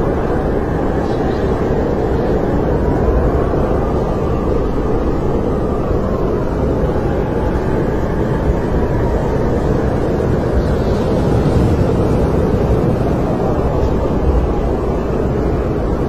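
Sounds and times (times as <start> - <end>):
snowstorm wind blowing: 0.0 - 16.0.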